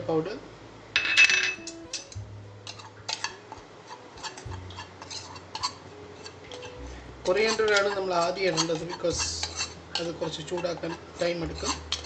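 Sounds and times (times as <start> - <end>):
spoon scraping a pan: 1.6 - 12.0.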